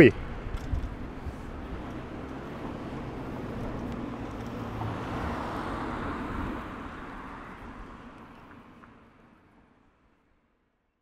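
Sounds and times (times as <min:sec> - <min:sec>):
city street traffic: 0:00.0 - 0:10.8.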